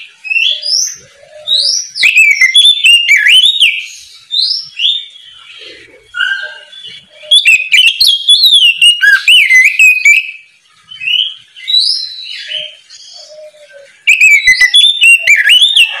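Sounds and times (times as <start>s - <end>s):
bird singing whistled phrases: 0.2s - 5.2s, 6.1s - 16.0s.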